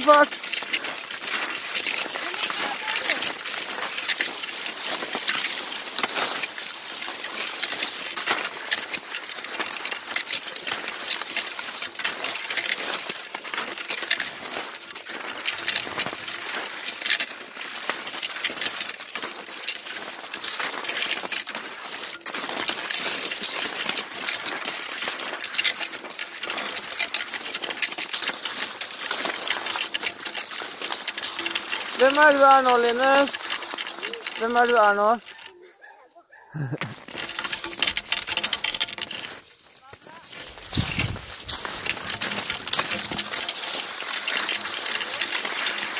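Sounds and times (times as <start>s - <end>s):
ski poles clicking: 0.0s - 45.9s
skis swishing on snow: 0.0s - 45.9s.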